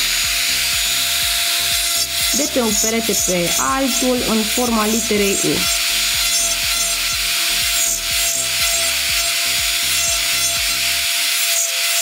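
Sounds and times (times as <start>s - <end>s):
nail file rasping: 0.0s - 12.0s.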